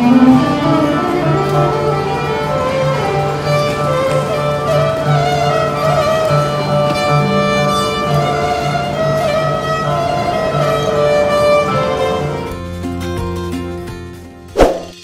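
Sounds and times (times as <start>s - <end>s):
violin melody: 0.0s - 13.9s
plucked oud notes: 0.0s - 14.3s.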